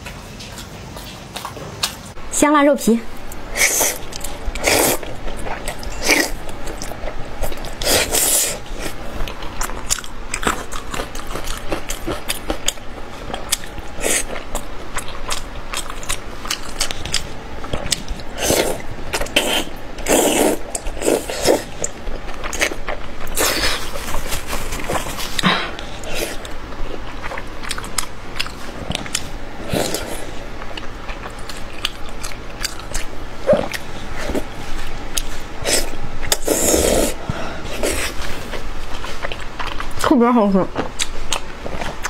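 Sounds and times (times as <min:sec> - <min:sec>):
person biting and chewing: 0:03.3 - 0:37.2.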